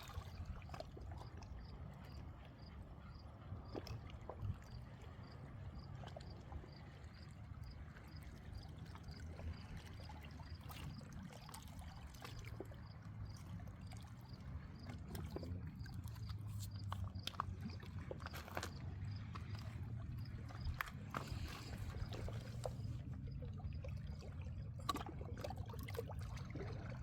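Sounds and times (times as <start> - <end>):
light water sounds: 0.0 - 27.0.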